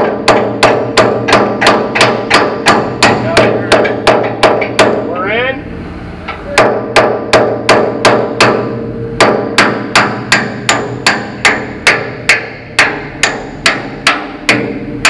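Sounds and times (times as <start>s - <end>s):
hammer ringing on steel: 0.0s - 5.1s, 6.6s - 15.0s.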